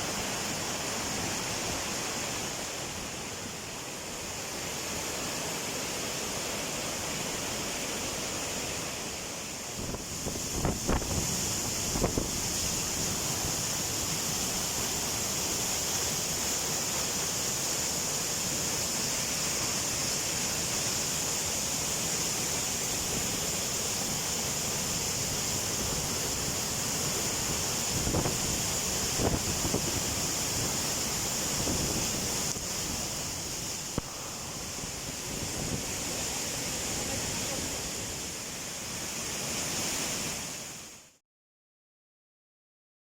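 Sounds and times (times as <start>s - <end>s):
waterfall rushing: 0.0s - 41.1s.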